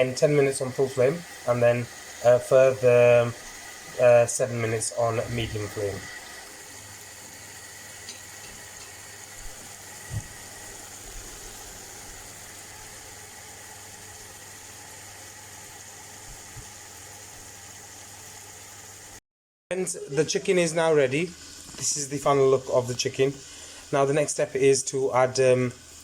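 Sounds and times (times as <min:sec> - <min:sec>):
steady hiss of cooking pot: 0:00.0 - 0:26.0.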